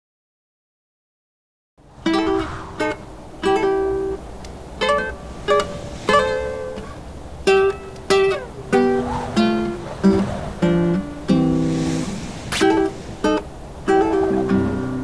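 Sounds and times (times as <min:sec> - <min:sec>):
plucked string instrument melody: 0:02.0 - 0:15.0.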